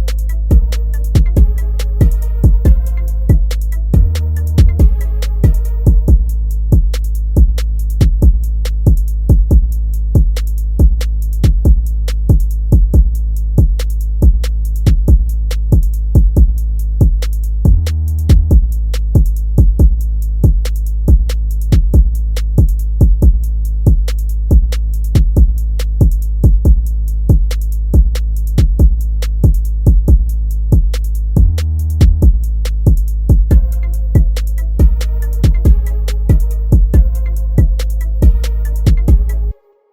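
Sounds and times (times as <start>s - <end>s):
hi-hat ticks: 0.0s - 39.5s
deep bass: 0.0s - 39.6s
hip hop instrumental beat: 0.0s - 39.6s.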